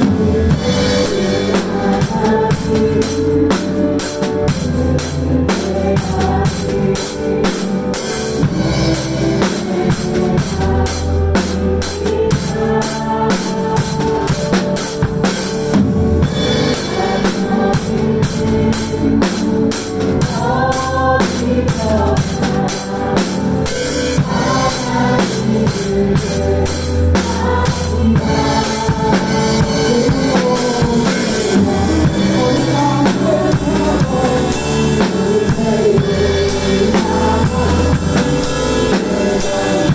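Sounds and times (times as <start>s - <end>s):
drum kit playing: 0.0s - 39.9s
worship song backing track: 0.0s - 39.9s.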